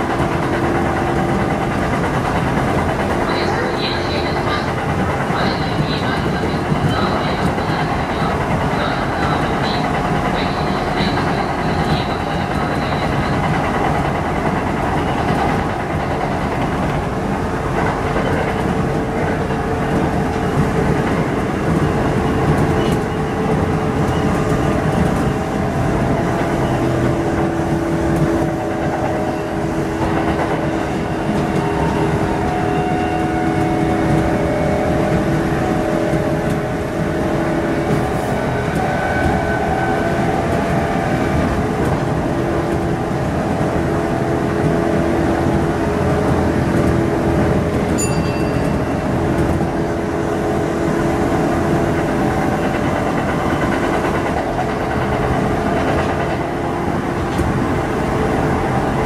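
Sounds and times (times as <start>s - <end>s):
train motor hum: 0.0s - 59.0s
train wheels rumbling on rail: 0.0s - 59.0s.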